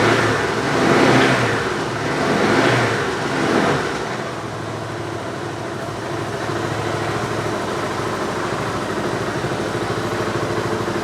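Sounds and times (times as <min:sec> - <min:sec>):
scooter engine idling: 0:00.0 - 0:02.2, 0:03.9 - 0:11.0.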